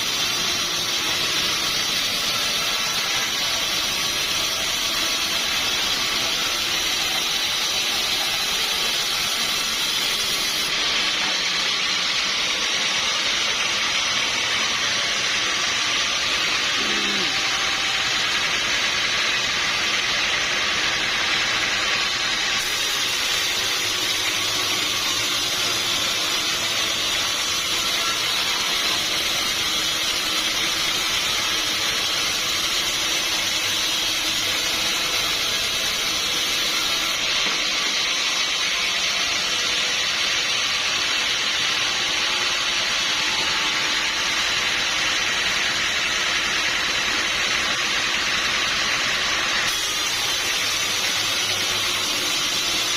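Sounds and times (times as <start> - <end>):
sawmill machinery hissing: 0.0 - 52.9.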